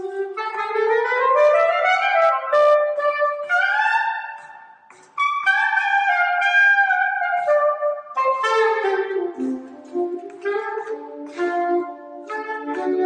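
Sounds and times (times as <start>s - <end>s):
solo saxophone long notes: 0.0s - 4.3s, 5.2s - 13.0s.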